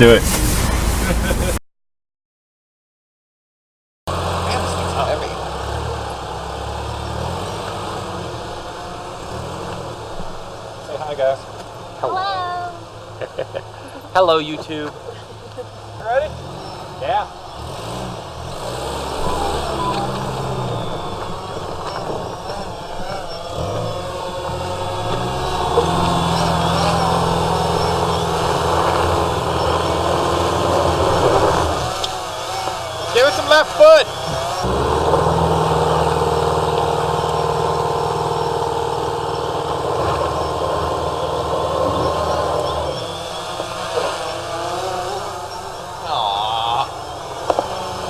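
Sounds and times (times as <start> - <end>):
engine revving under load: 0.0 - 1.6, 4.1 - 48.0.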